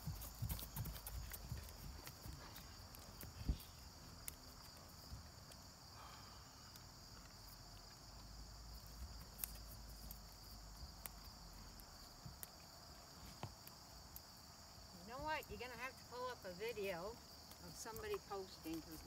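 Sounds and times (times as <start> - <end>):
horse hooves thudding on grass: 0.0 - 5.8, 7.0 - 19.0
crickets chirring: 0.0 - 19.0.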